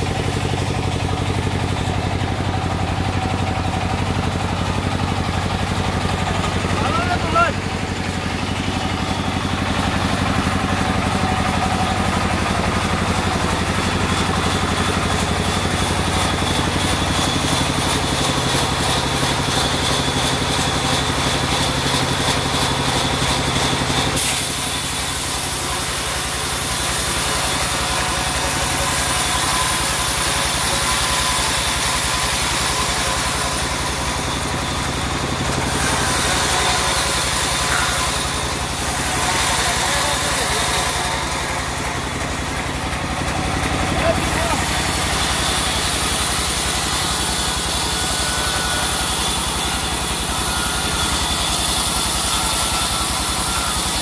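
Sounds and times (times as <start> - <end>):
saw blade hiss: 0.0 - 42.9, 43.5 - 54.0
sawmill machine hum: 0.0 - 54.0.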